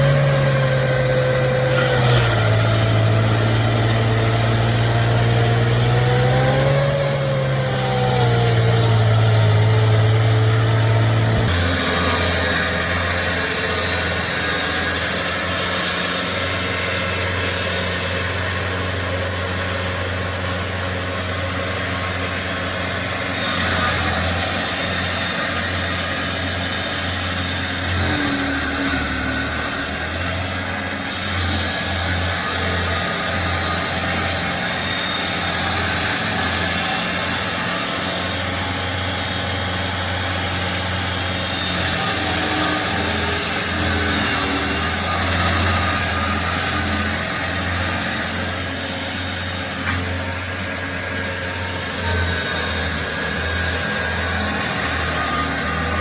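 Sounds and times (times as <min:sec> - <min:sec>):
stump grinder engine running: 0:00.0 - 0:56.0.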